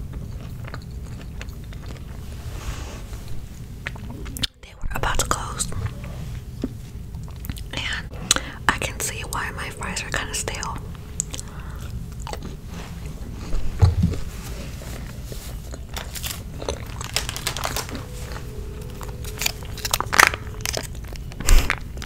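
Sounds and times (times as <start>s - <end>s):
person chewing crunchy food: 0.0s - 4.5s, 5.6s - 22.0s.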